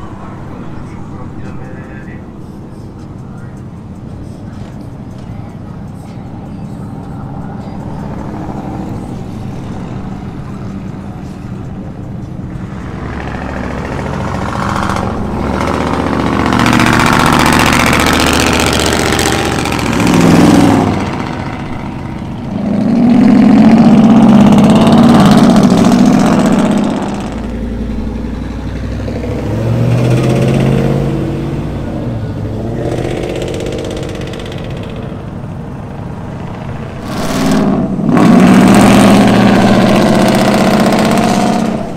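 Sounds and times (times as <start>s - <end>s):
pickup trucks accelerating past: 0.0s - 41.9s.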